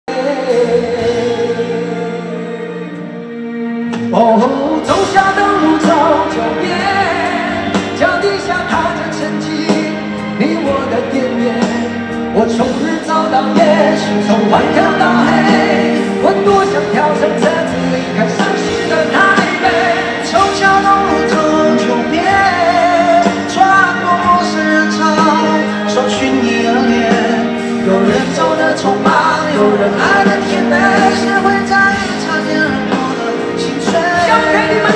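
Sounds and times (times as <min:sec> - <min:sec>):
live pop-rock song: 0:00.0 - 0:34.9
men singing: 0:00.1 - 0:03.0, 0:04.0 - 0:34.9.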